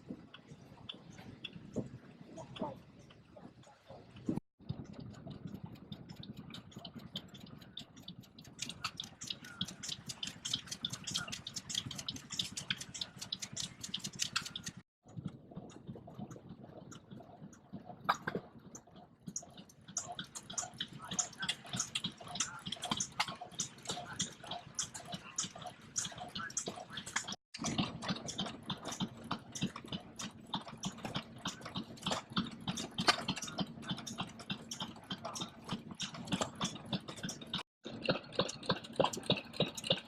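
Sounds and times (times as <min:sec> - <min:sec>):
stationary engine ticking clatter: 0:00.0 - 0:40.0.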